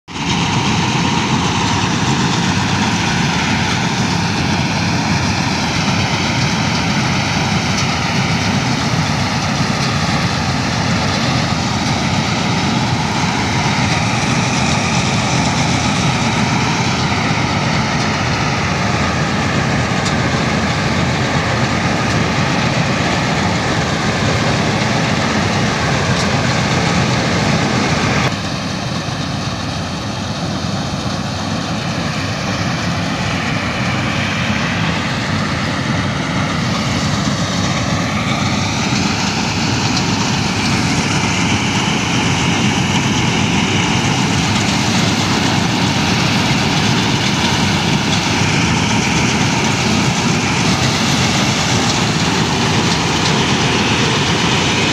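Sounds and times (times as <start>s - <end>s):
combine harvester engine din: 0.1s - 54.9s.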